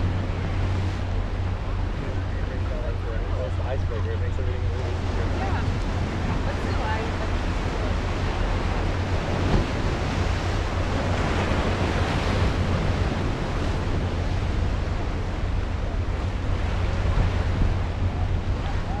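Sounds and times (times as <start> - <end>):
surf breaking over rocks: 0.0 - 19.0
wind rumbling on microphone: 0.0 - 19.0.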